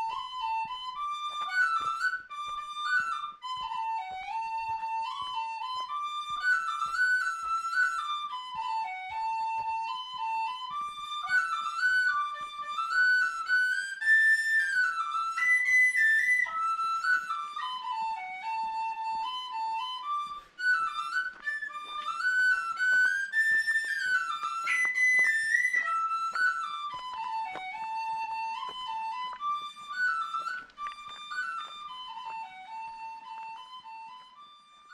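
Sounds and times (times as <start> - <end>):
solo flute melody: 0.0 - 34.9.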